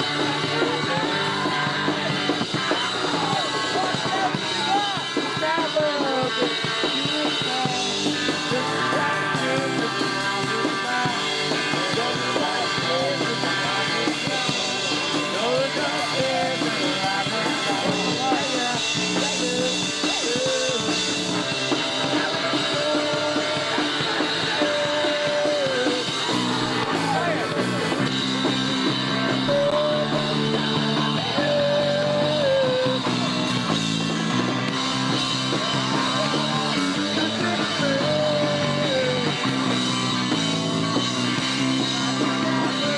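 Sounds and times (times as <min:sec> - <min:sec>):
punk rock band playing live: 0:00.0 - 0:42.9
shouted singing: 0:00.0 - 0:42.9.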